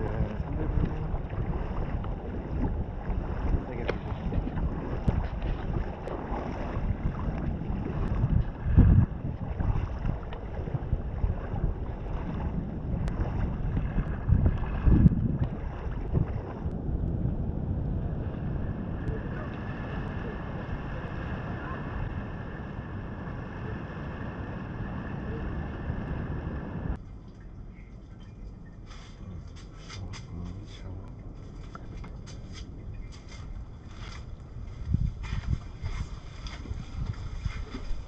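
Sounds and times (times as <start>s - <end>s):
heavy wind thumps: 0.0s - 27.0s, 29.2s - 38.0s
wind buffeting microphone: 0.0s - 27.0s, 27.6s - 38.0s.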